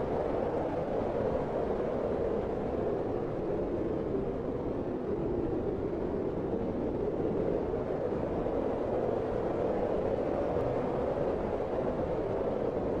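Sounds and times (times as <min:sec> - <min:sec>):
blizzard wind blowing: 0:00.0 - 0:13.0.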